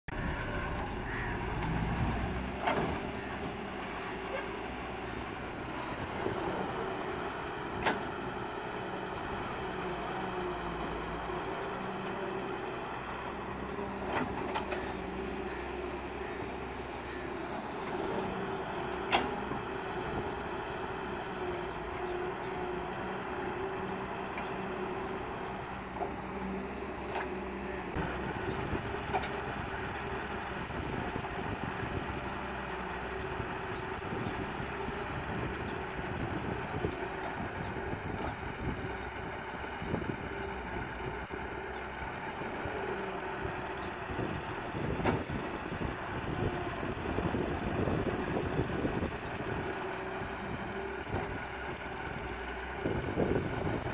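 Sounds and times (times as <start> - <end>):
excavator diesel engine running: 0.1 - 53.9.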